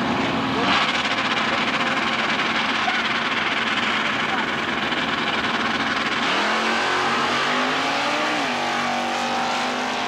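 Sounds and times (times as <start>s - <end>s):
drag racing cars revving: 0.0s - 10.0s.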